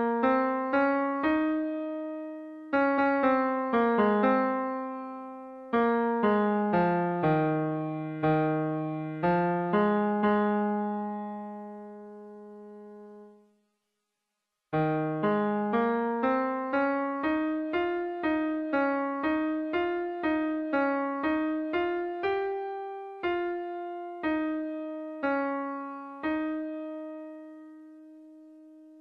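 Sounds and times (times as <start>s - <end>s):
keyboard piano melody: 0.0s - 13.6s, 14.7s - 29.0s.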